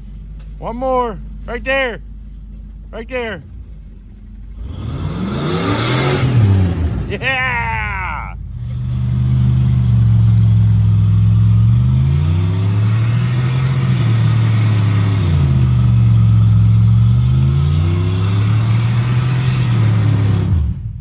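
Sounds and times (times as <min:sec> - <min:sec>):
truck engine revving: 0:02.7 - 0:21.0.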